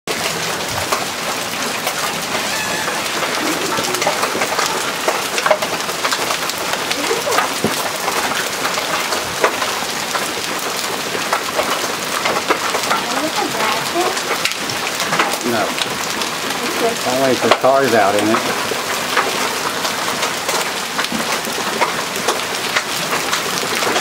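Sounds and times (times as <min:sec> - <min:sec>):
hailstones striking: 0:00.1 - 0:24.0
heavy rain hissing: 0:00.1 - 0:24.0.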